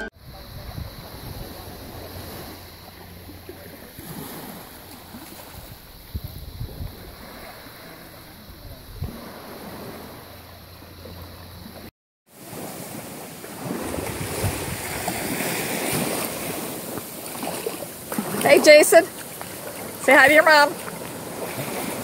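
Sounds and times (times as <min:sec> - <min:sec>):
wind buffeting microphone: 0:00.0 - 0:10.6, 0:12.5 - 0:22.0
small waves lapping on sand: 0:00.0 - 0:22.0.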